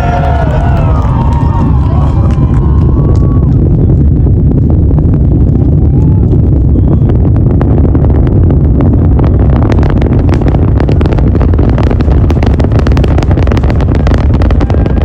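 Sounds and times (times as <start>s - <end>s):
rocket engines rumbling and crackling: 0.0s - 15.0s.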